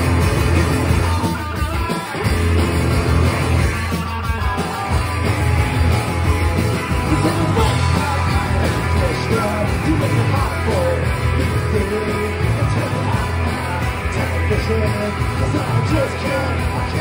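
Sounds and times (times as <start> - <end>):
punk rock band playing live: 0.0 - 17.0.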